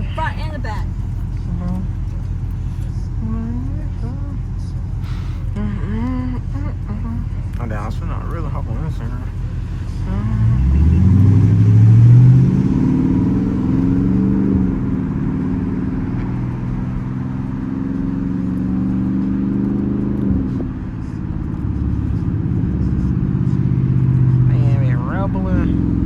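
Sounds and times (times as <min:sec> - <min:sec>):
car engine exhaust accelerating: 0:00.0 - 0:26.0.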